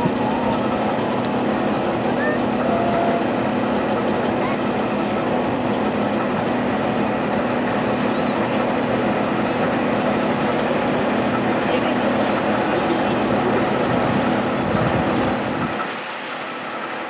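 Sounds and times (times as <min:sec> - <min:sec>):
motorboat engine humming: 0:00.0 - 0:17.0
rushing water and wind: 0:00.0 - 0:17.0.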